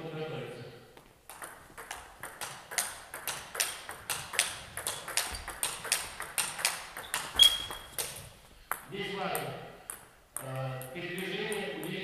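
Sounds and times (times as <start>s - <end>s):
table tennis ball clicks: 1.3s - 12.0s.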